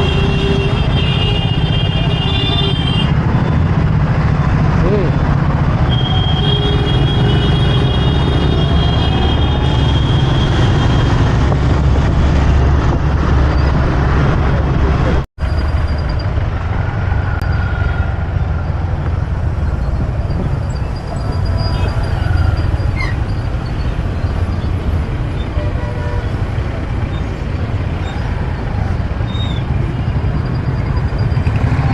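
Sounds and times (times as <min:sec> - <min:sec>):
city traffic rumble: 0:00.0 - 0:31.9.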